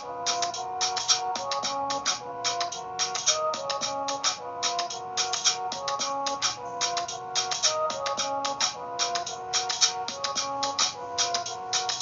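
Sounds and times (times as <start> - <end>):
bright percussion beat: 0.0 - 12.0
keyboard melody: 0.0 - 12.0.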